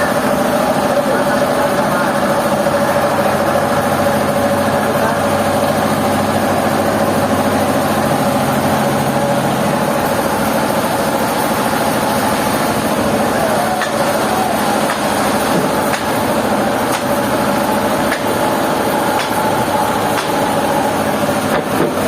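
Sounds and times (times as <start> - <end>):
constant machine whine: 0.0 - 22.0
sawmill machinery humming: 0.0 - 22.0.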